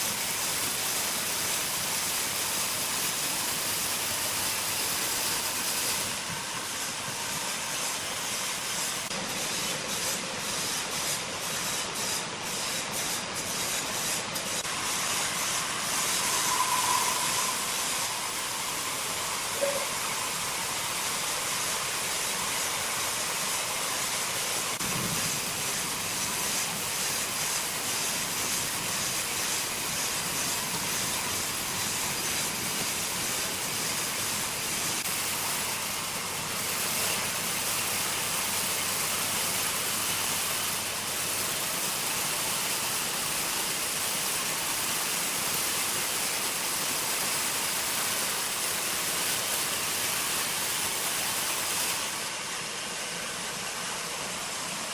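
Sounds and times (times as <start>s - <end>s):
sawmill machinery hissing: 0.0s - 54.9s.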